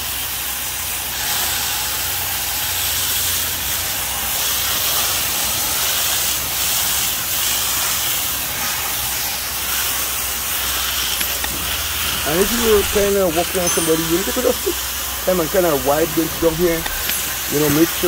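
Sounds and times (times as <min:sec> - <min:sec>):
hose water jet spraying on fins: 0:00.0 - 0:18.0.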